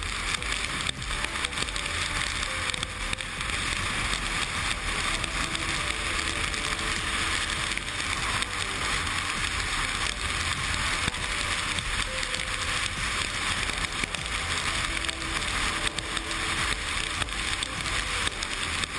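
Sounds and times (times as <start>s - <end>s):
motorcycle road noise: 0.0s - 18.9s.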